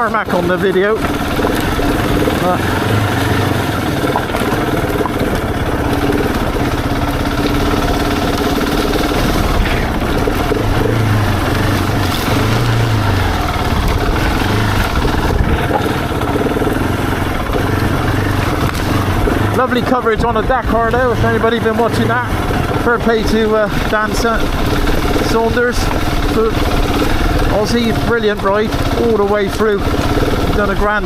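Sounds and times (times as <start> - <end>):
motorcycle engine at low revs: 0.0 - 31.0.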